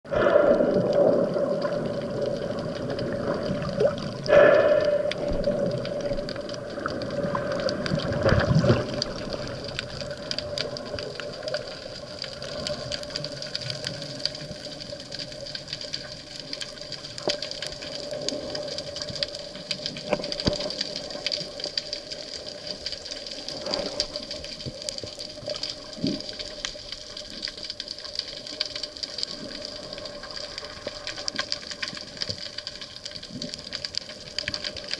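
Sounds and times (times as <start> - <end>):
underwater rush of water: 0.0 - 34.9
faint clicks and crackles: 0.1 - 34.9.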